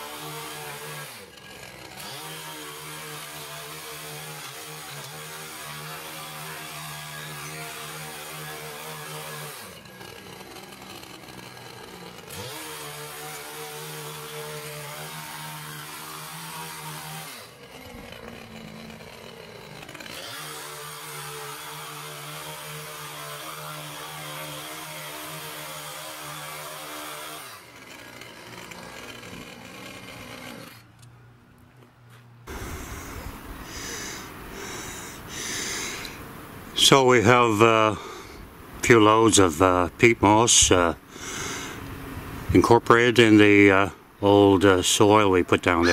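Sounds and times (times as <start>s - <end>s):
tines churning soil: 0.0s - 31.0s, 32.5s - 45.9s
mini tiller engine revving: 0.0s - 31.1s, 32.5s - 44.7s, 45.6s - 45.9s.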